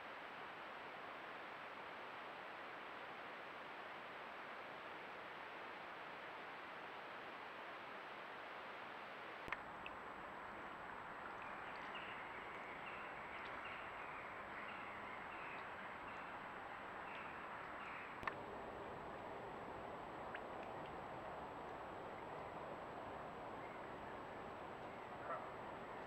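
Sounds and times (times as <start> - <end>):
recording hiss: 0.0 - 26.0.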